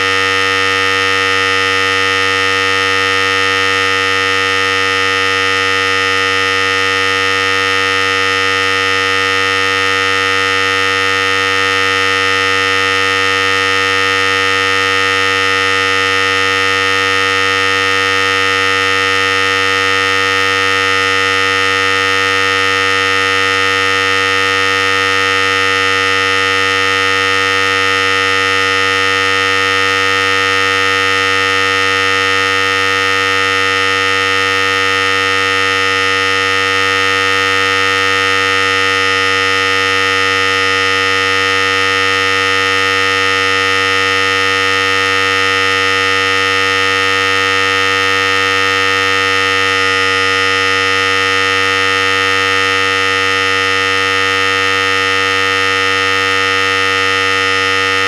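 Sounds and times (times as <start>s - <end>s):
electric clippers buzzing: 0.0s - 58.0s.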